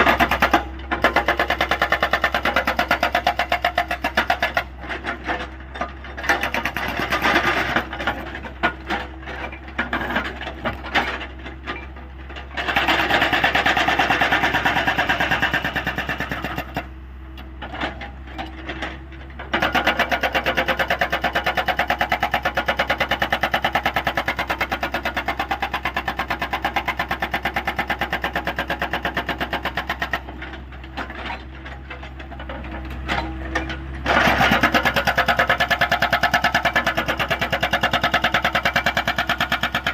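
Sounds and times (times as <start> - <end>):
hydraulic rock breaker hammering: 0.0 - 16.9, 19.4 - 39.9.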